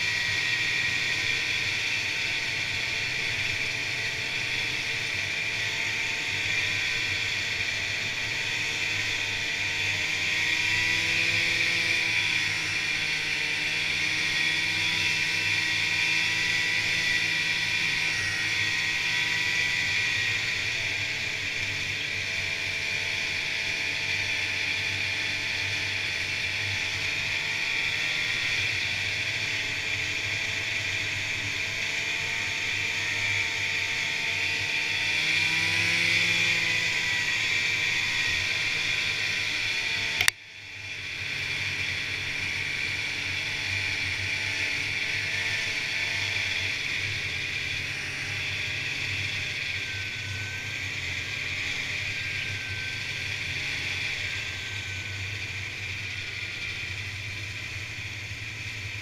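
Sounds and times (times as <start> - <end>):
snowmobile engine cruising: 0.0 - 59.0.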